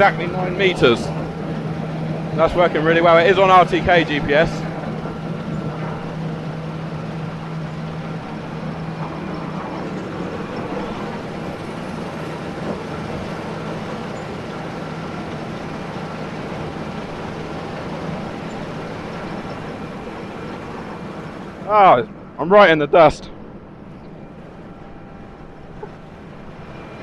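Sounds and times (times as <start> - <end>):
low hum: 0.0 - 22.4
combine harvester drone: 0.0 - 27.0.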